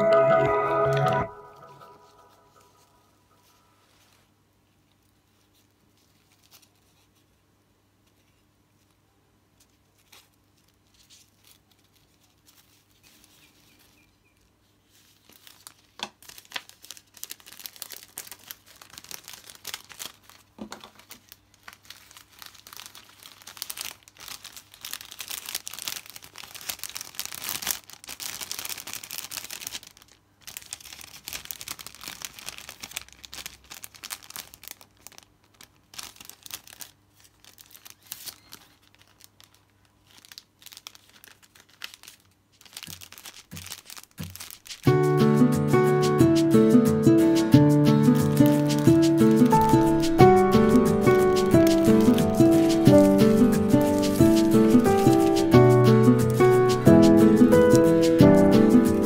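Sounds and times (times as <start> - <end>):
cellophane bag crinkling: 0.9 - 7.3, 9.6 - 45.4, 47.6 - 59.0.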